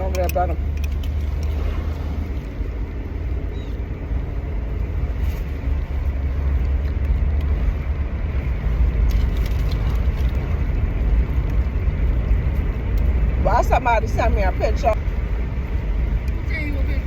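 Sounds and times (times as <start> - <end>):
car cabin engine and road rumble: 0.0 - 17.0.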